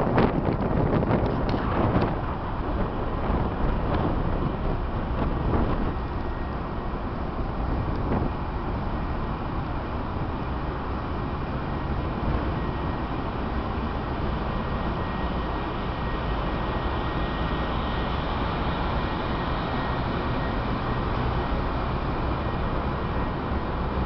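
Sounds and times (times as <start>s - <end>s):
wind and sea rushing: 0.0s - 24.0s.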